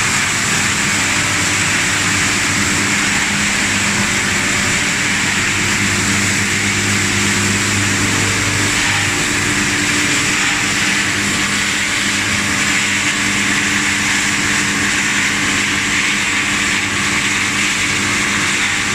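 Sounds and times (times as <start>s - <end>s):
constant machine hiss: 0.0s - 18.9s
electric motors humming: 0.0s - 18.9s.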